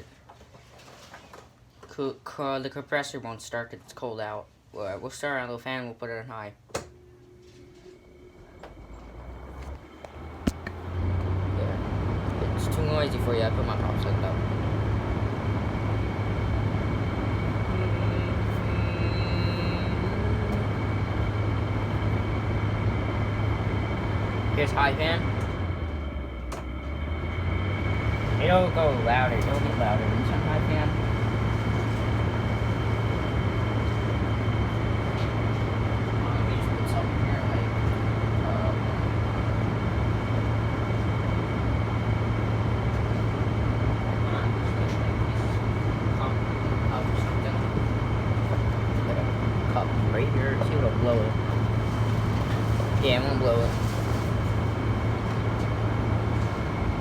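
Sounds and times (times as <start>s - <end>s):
air conditioner fan humming: 0.0s - 57.0s.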